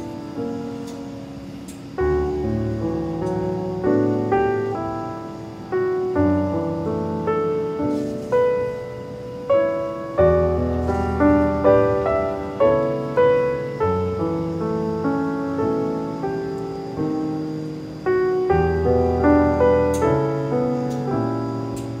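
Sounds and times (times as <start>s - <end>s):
solo piano melody: 0.0s - 22.0s.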